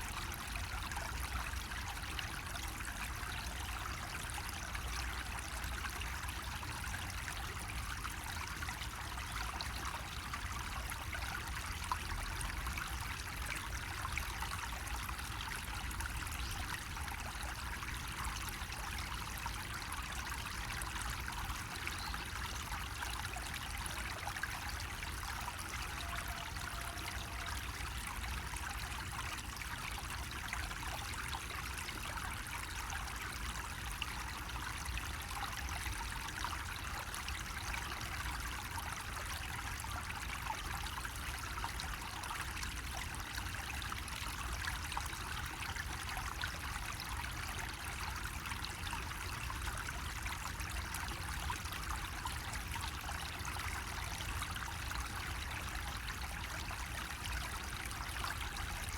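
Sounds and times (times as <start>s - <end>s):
water trickling from a spout: 0.0s - 58.9s.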